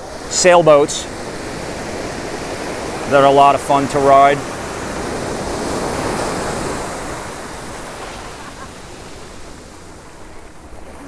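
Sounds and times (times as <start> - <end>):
small waves breaking on shore: 0.0 - 11.0.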